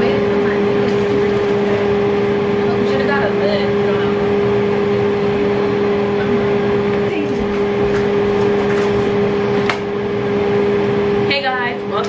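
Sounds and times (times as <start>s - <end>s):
faint voices: 0.0s - 12.0s
machine hum: 0.0s - 12.0s.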